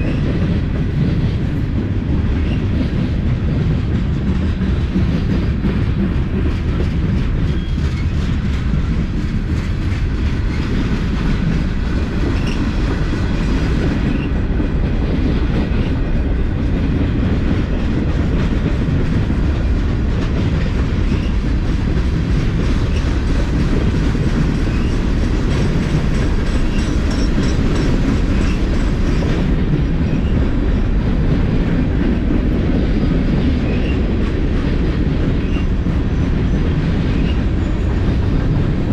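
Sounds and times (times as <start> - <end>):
freight train wheels rumbling on rail: 0.0 - 38.9.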